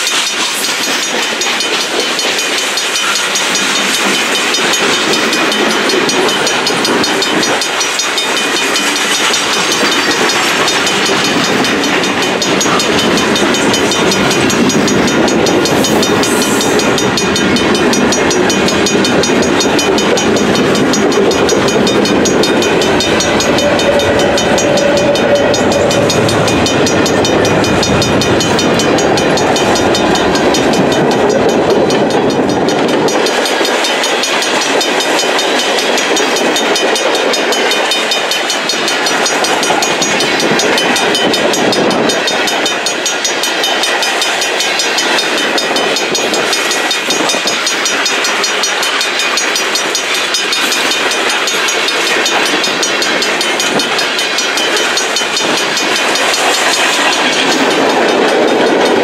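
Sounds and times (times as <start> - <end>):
freight train wheels rattling on rail: 0.0 - 59.0.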